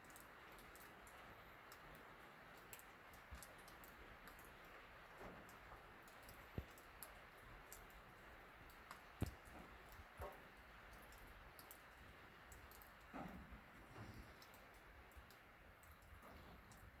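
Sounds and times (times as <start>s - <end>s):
rain on a metal roof: 0.0s - 17.0s.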